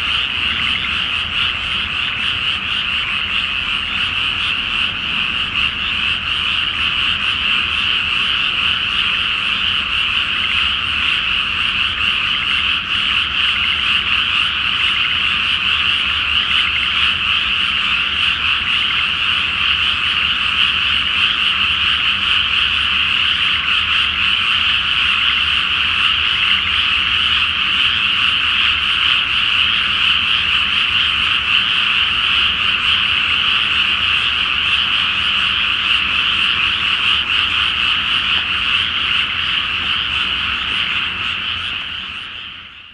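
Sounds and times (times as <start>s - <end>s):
chorus of frogs croaking: 0.0s - 42.9s.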